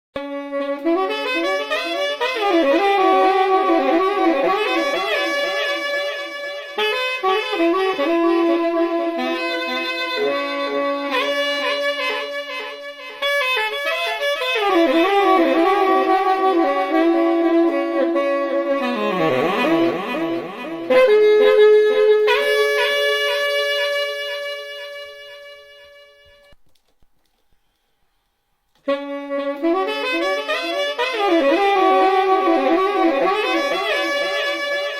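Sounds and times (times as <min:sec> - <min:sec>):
instrumental music with saxophone: 0:00.2 - 0:26.6, 0:27.2 - 0:34.9.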